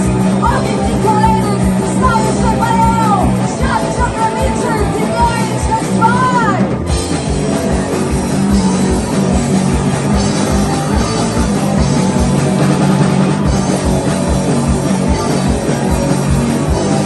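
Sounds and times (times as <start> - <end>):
drum kit fast beat: 0.0 - 17.0
rock band playing: 0.0 - 17.0.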